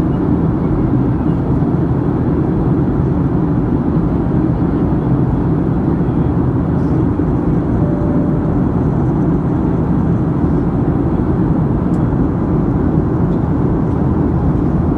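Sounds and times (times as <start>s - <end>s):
plane cabin engine rumble: 0.0s - 14.9s.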